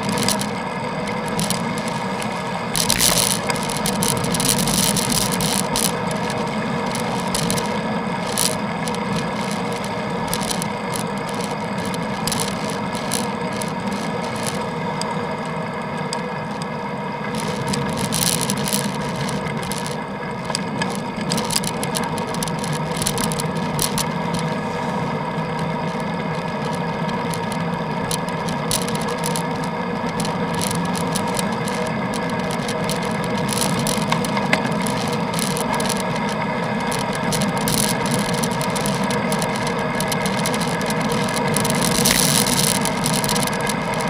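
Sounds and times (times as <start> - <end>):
bicycle rattling and road rumble: 0.0 - 44.0.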